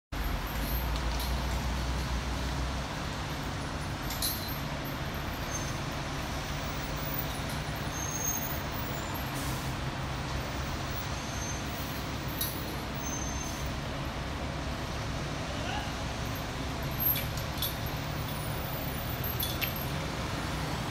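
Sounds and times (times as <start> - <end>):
street traffic: 0.1 - 20.9
diesel truck engine running: 0.2 - 20.9.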